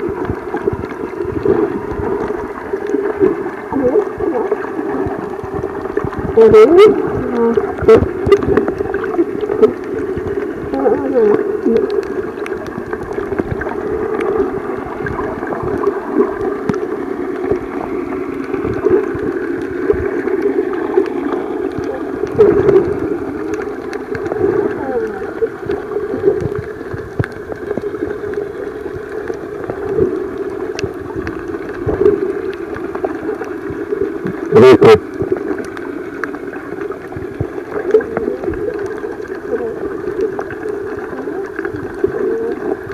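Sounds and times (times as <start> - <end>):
muffled underwater gurgling: 0.0 - 42.9.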